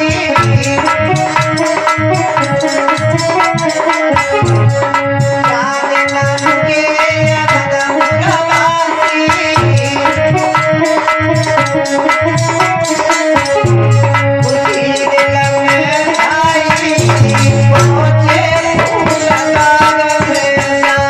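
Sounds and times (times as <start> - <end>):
hand drum beat: 0.0 - 21.0.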